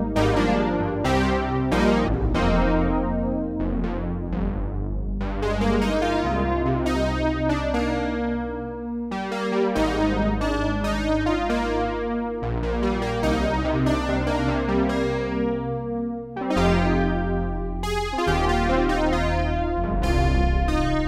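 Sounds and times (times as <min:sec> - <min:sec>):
synthesizer bass notes: 0:00.0 - 0:21.0
synthesizer chords: 0:00.0 - 0:21.0.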